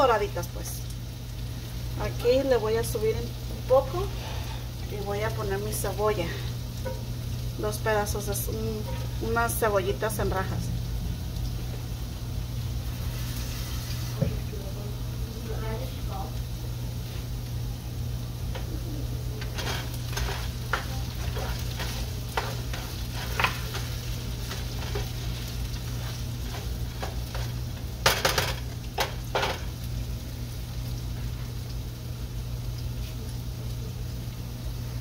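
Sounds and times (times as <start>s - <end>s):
potatoes sizzling in skillet: 0.0s - 35.0s.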